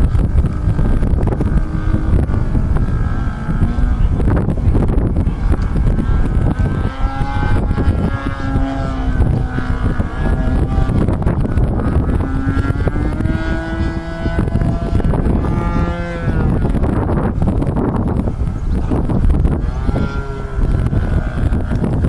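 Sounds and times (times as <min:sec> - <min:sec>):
model aircraft engine droning: 0:00.0 - 0:22.0
wind buffeting microphone: 0:00.0 - 0:22.0.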